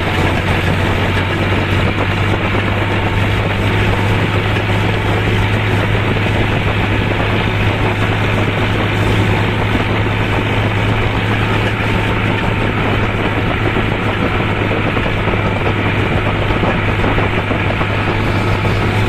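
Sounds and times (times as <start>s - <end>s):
tractor diesel engine droning: 0.0s - 19.0s.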